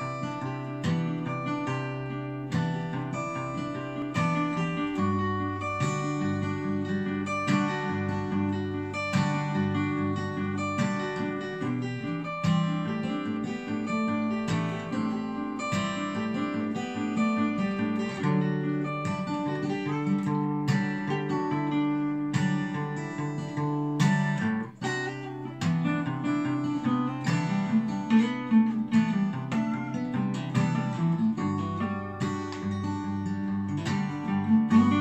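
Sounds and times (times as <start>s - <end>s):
acoustic guitars playing ballad: 0.0s - 35.0s.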